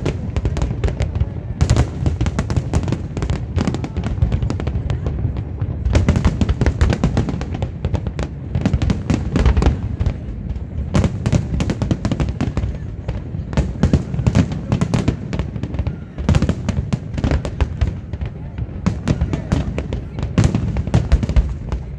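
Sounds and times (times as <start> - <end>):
fireworks bursting: 0.0 - 21.9
fireworks crackle: 0.0 - 21.9.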